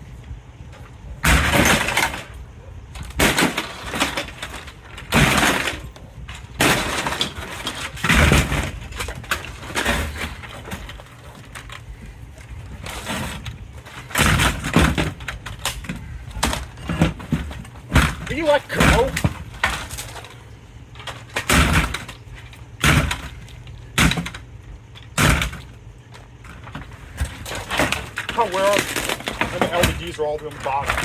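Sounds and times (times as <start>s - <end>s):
scraping and rattling: 0.7s - 31.0s
plastic and glass breaking: 1.2s - 2.4s, 3.0s - 11.8s, 12.8s - 25.7s, 26.5s - 31.0s.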